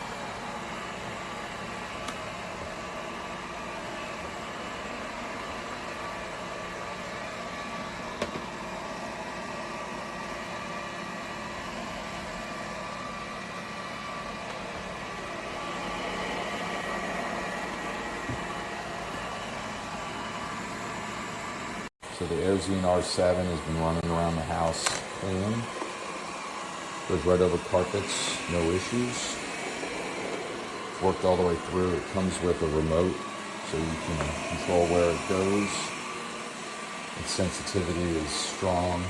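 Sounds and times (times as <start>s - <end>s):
robot vacuum cleaner whirring: 0.0s - 39.0s.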